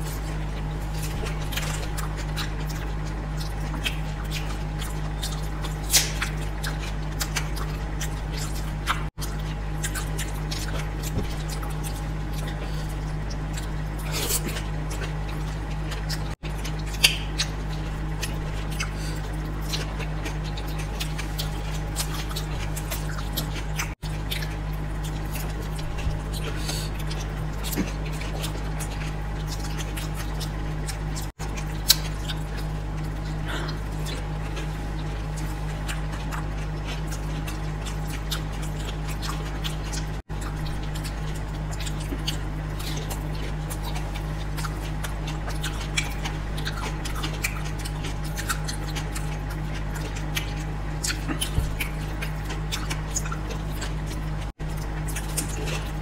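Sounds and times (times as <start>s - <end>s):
crisp shells cracking while chewed: 0.0s - 56.0s
low electrical hum: 0.0s - 56.0s
wet mouth sounds: 0.0s - 56.0s.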